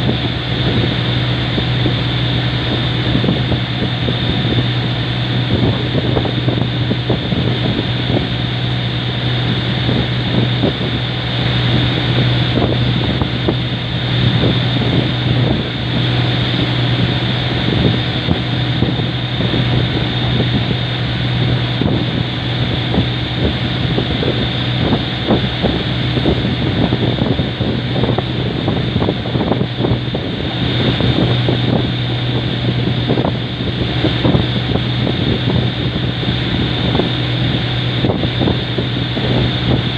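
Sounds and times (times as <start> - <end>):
boat engine droning: 0.0 - 39.9
wind buffeting microphone: 0.0 - 39.9.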